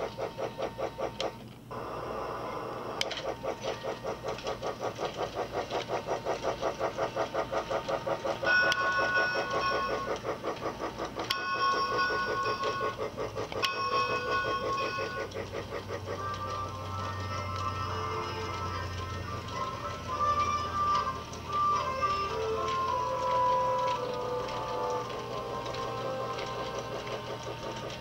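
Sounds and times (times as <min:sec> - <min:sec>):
toy train chugging: 0:00.0 - 0:28.0
electronic train whistle: 0:01.7 - 0:28.0.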